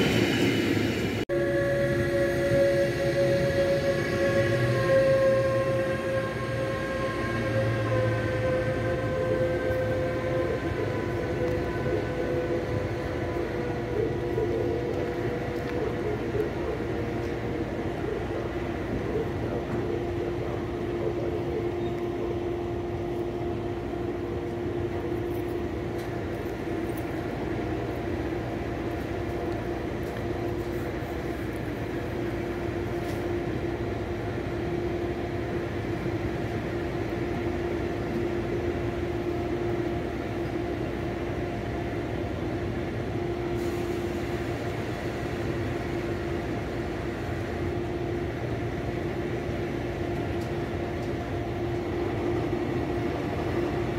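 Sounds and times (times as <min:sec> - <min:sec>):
train hum: 0:00.0 - 0:53.9.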